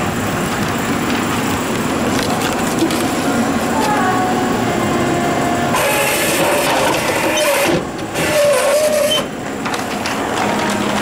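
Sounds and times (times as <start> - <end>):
vending machine rattle and grind: 0.0 - 3.8, 5.7 - 11.0.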